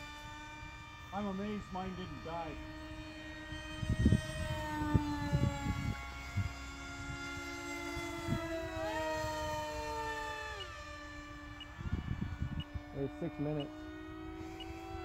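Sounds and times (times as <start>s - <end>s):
high whine of model jets: 0.0s - 15.0s.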